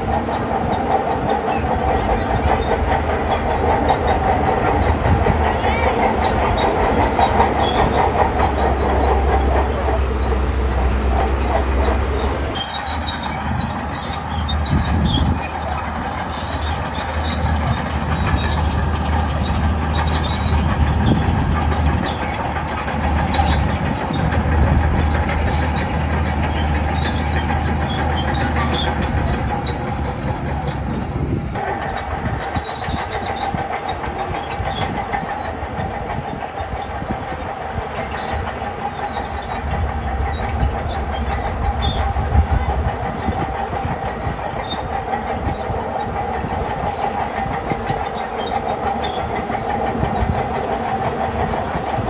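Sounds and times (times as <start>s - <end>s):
bulldozer diesel engine under load: 0.0s - 52.0s
steel tracks clattering and squealing: 0.0s - 52.0s.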